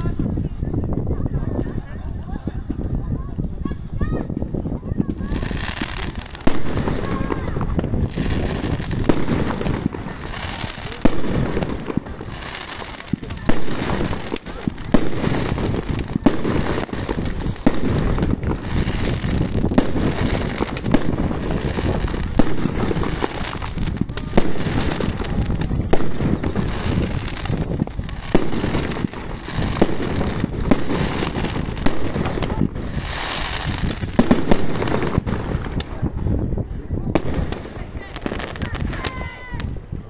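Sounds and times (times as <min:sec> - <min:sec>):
fireworks launches and bursts: 0:00.0 - 0:40.0
fireworks banging: 0:01.0 - 0:40.0.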